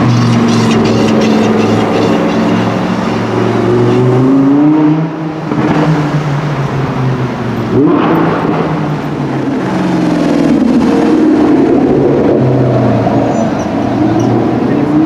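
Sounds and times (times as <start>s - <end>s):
supercar engine accelerating: 0.0s - 15.0s.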